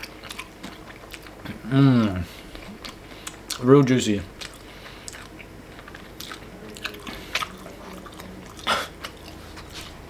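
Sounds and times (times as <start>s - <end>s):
person chewing wetly: 0.0s - 3.6s, 4.3s - 10.0s.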